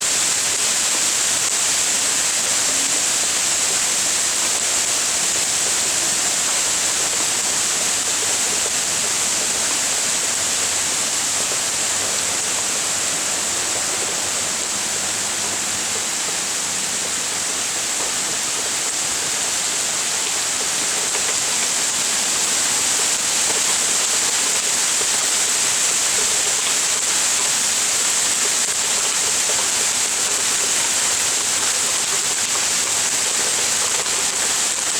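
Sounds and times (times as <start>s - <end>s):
hail and heavy rain falling: 0.0s - 34.9s.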